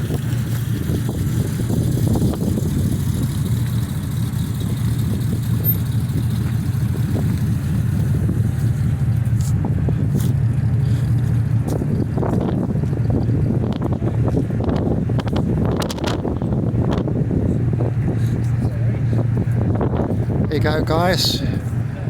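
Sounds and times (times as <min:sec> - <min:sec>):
car engine idling: 0:00.0 - 0:22.0
wind buffeting microphone: 0:00.0 - 0:22.0.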